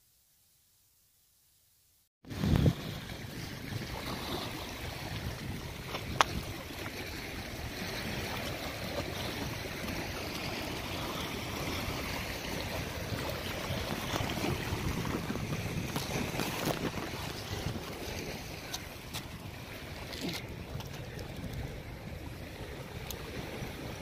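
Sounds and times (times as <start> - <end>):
small waves lapping against rocks: 2.3 - 24.0
wind rumbling on microphone: 2.3 - 24.0.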